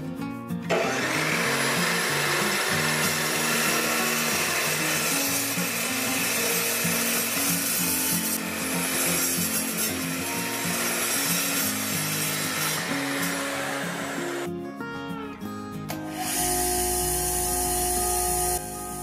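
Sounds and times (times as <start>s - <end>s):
chop saw cutting steel tubing: 0.7s - 14.5s, 15.9s - 18.8s.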